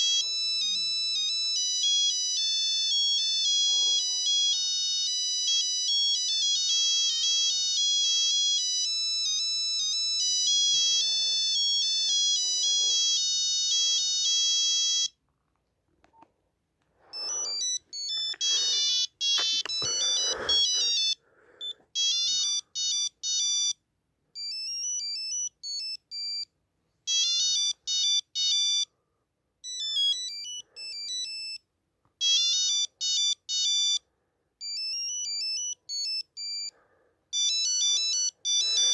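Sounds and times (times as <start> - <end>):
phone ringtone electronic beeps: 0.0 - 15.2, 17.1 - 23.8, 24.4 - 26.5, 27.1 - 28.9, 29.6 - 36.7, 37.3 - 38.9.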